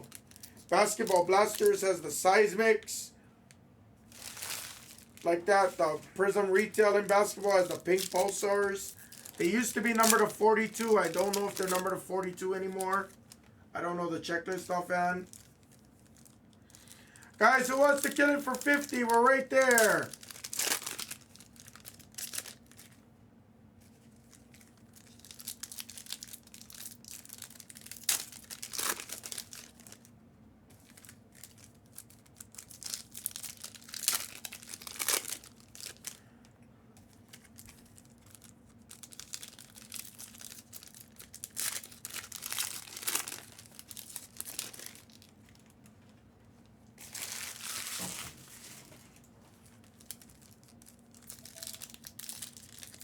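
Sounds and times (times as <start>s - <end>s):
plastic wrapping crinkling and tearing: 0.0s - 1.9s, 4.0s - 13.6s, 14.4s - 23.0s, 23.8s - 30.1s, 30.7s - 36.3s, 37.0s - 45.9s, 47.0s - 53.0s
faint steady hum: 0.0s - 53.0s.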